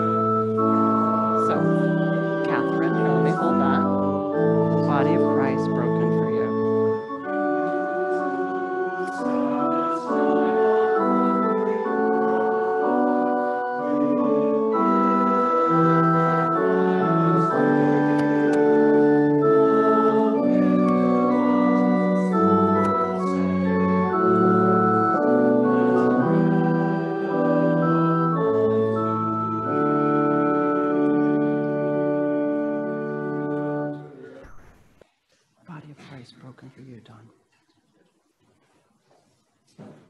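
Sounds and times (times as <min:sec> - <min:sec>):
deep organ pedal bass notes: 0:00.0 - 0:34.0
organ playing held chords: 0:00.0 - 0:34.2.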